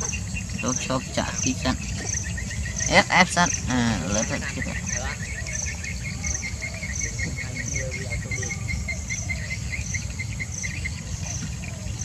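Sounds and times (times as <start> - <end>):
insects chirping: 0.0 - 12.0
steady low rumble: 0.0 - 12.0.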